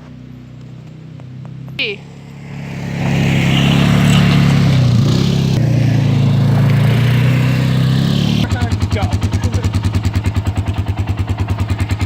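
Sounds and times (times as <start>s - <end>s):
loud motor running: 2.0s - 12.0s.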